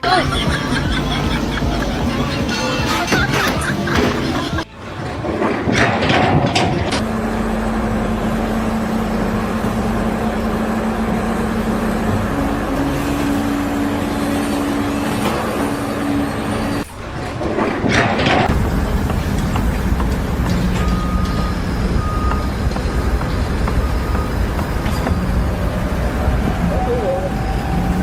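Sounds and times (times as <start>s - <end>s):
heavy engine running: 0.0s - 28.0s
rush of noise: 0.0s - 28.0s.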